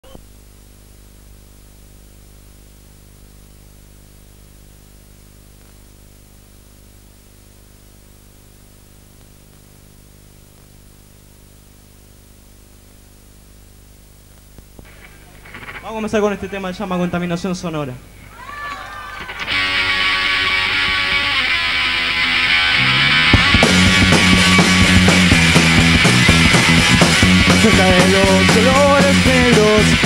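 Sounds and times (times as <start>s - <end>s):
low electrical hum: 0.0s - 29.8s
tape hiss: 0.0s - 30.0s.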